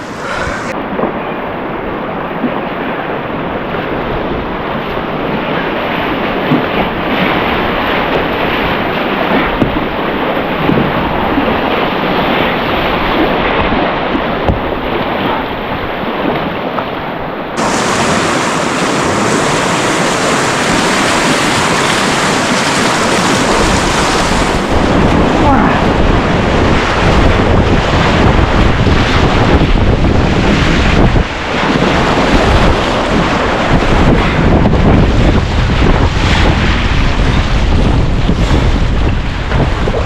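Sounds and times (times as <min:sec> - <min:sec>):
surf breaking: 0:00.0 - 0:40.0
water rushing around kayak: 0:00.0 - 0:40.0
wind buffeting microphone: 0:00.0 - 0:40.0.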